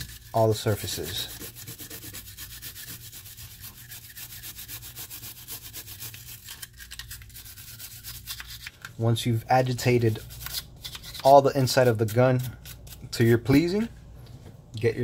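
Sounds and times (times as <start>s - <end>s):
brush scrubbing inside pistol frame: 0.0s - 8.9s, 9.6s - 13.8s.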